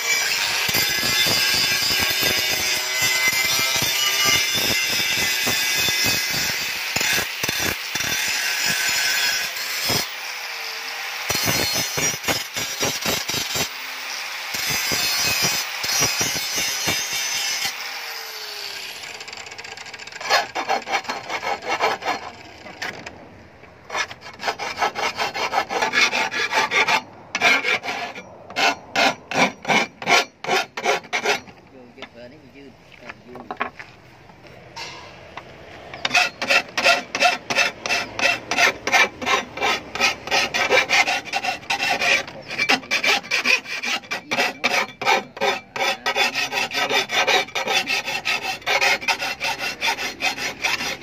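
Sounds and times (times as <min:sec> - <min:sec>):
hand file rasping on metal: 0:00.0 - 0:10.1, 0:11.3 - 0:13.7, 0:14.6 - 0:23.0, 0:23.9 - 0:31.6, 0:36.0 - 0:51.0
angle grinder grinding steel: 0:00.0 - 0:23.0, 0:23.9 - 0:33.8, 0:34.8 - 0:51.0.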